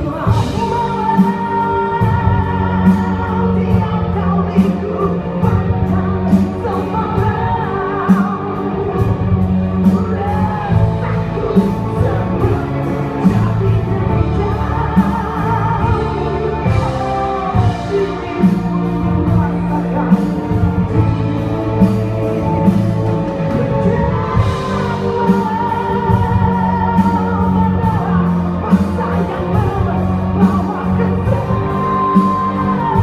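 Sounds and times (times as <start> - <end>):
band and orchestra song: 0.0 - 33.0
bass line: 0.0 - 33.0
person singing: 0.0 - 33.0.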